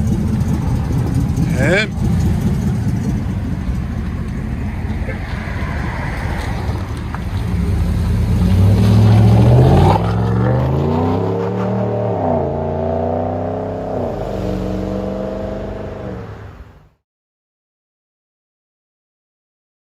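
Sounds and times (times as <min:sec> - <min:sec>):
truck engine accelerating: 0:00.0 - 0:16.9.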